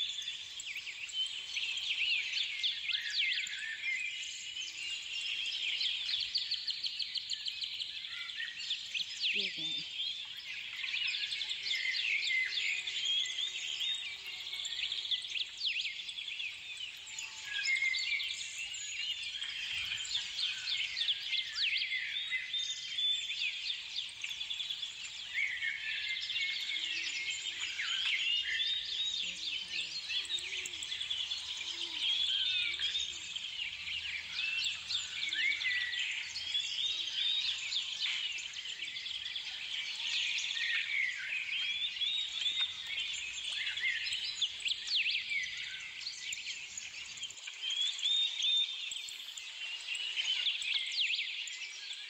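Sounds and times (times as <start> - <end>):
many small birds chirping: 0.0 - 52.0.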